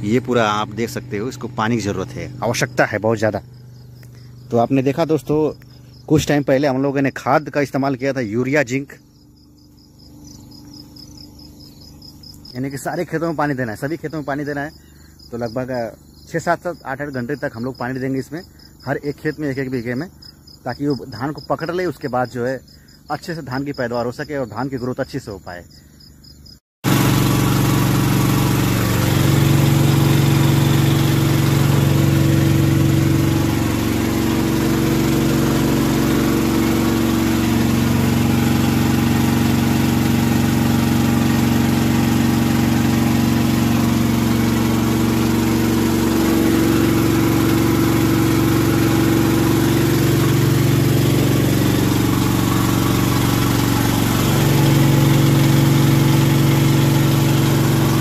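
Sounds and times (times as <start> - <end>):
small water pump engine running: 0.0 - 25.0, 26.8 - 58.0.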